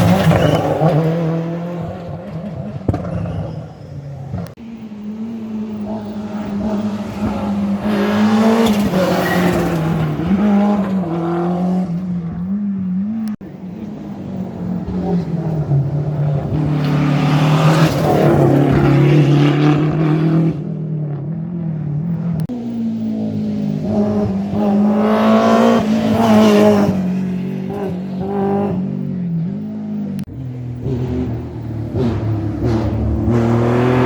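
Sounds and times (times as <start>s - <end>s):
rally car engine: 0.0s - 34.0s.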